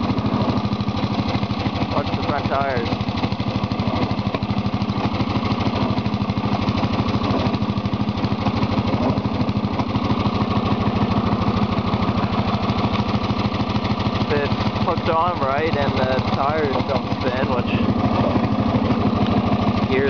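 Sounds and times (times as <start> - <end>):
lawn tractor engine running: 0.0 - 20.0.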